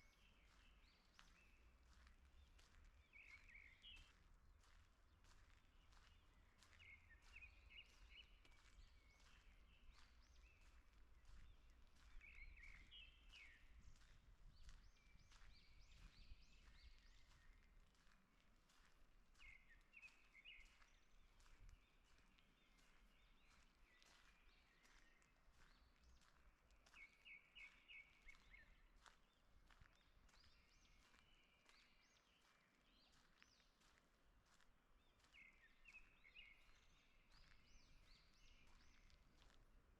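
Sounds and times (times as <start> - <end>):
faint songbirds chirping: 0.0 - 39.9
footsteps on forest path: 0.0 - 39.9.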